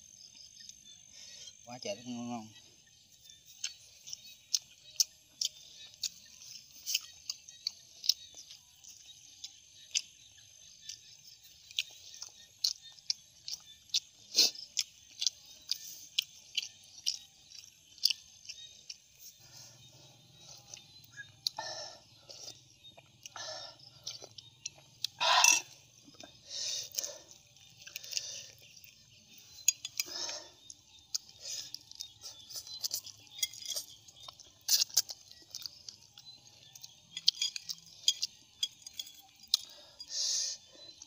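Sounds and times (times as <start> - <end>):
person chewing with wet smacks: 3.5 - 19.4, 22.3 - 39.7.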